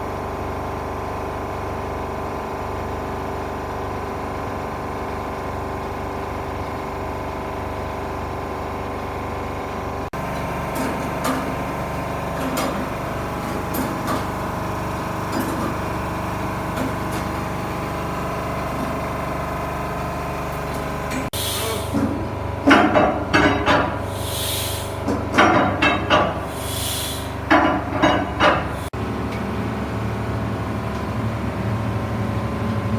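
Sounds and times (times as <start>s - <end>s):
marine diesel engine running: 0.0s - 32.9s.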